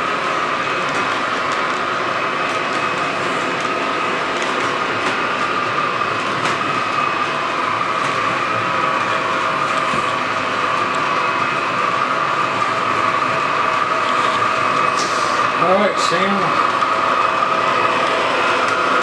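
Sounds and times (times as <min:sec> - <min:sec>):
model train motor whine: 0:00.0 - 0:19.0
wheels rolling on rails: 0:00.0 - 0:19.0.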